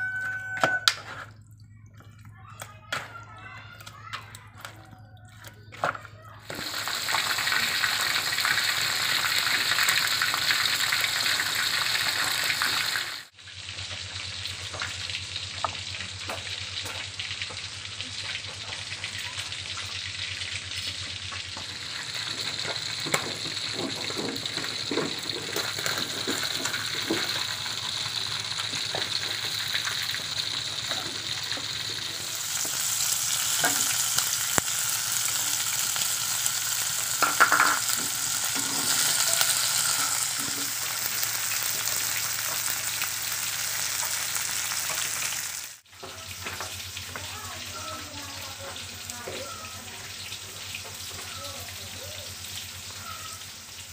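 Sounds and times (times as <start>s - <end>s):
oil sizzling in a wok: 0.0s - 1.0s, 6.4s - 53.9s.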